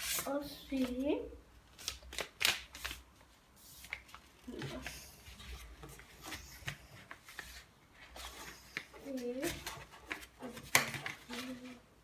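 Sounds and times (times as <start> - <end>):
paper crinkling: 1.8 - 11.8.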